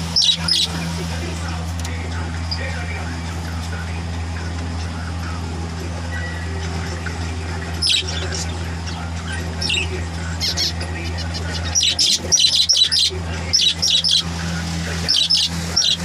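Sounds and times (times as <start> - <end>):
finches calling: 0.0 - 16.0
low hum: 0.0 - 16.0.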